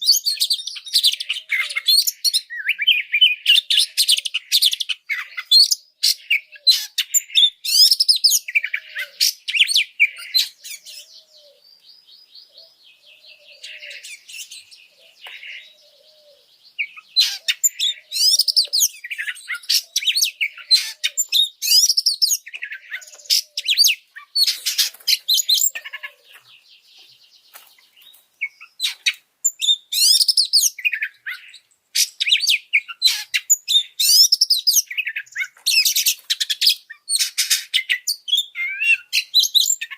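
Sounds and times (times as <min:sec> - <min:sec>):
bird singing whistles and harsh notes: 0:00.0 - 0:11.5, 0:16.8 - 0:25.8, 0:28.0 - 0:39.9.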